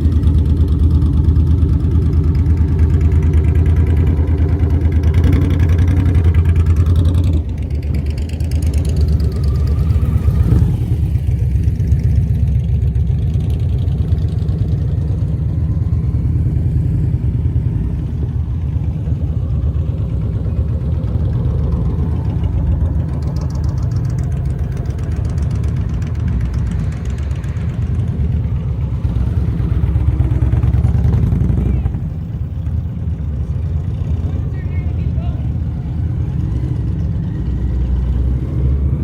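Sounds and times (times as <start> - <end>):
motorcycle engine rumbling: 0.0 - 39.0.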